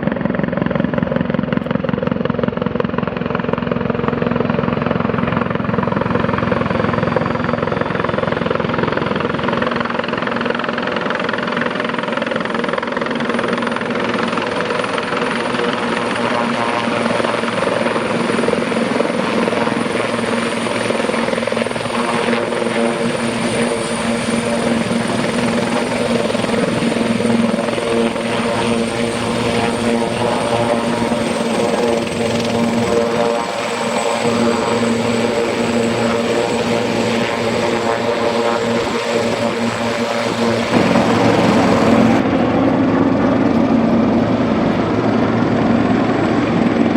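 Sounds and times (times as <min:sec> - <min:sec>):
helicopter engines and rotors: 0:00.0 - 0:46.9.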